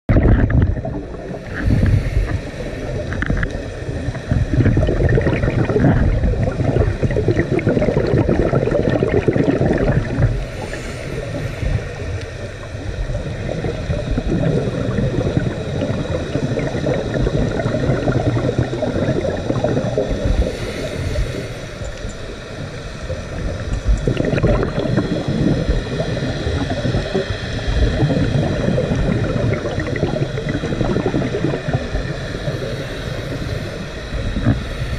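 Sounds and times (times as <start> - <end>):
underwater rushing and gurgling: 0.0 - 34.9
faint hissing: 0.7 - 34.9.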